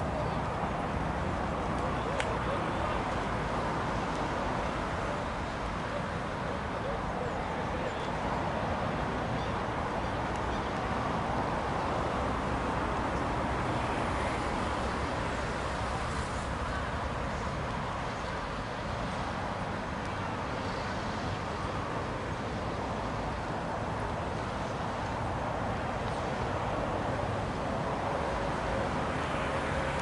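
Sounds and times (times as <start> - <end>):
distant road traffic: 0.0 - 30.0.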